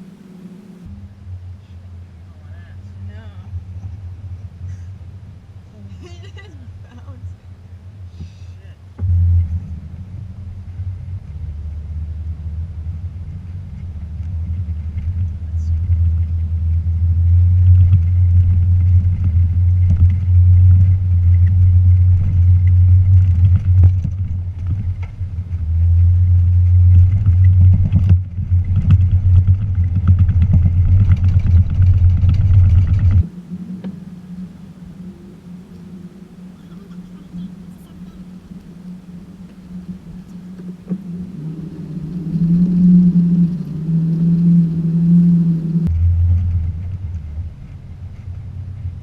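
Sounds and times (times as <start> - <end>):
faint steady hum: 0.0 - 49.0
pickup engine rumble off-road: 0.0 - 49.0.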